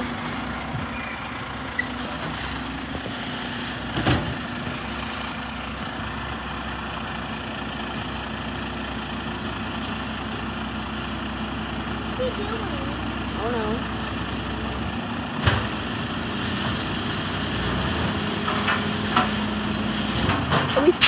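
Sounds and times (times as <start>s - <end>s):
recycling truck running: 0.0s - 21.0s.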